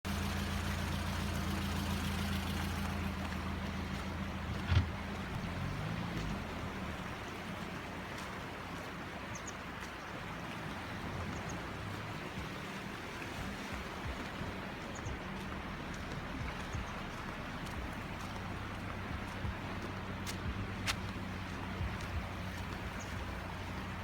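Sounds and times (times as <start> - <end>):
fast-flowing river rushing: 0.1 - 24.0.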